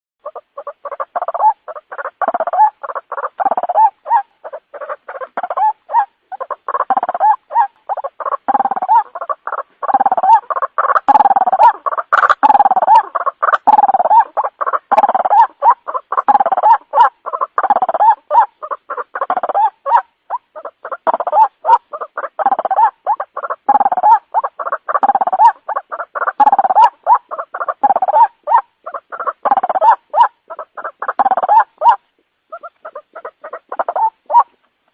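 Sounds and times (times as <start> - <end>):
waterhen call notes: 0.2 - 34.9.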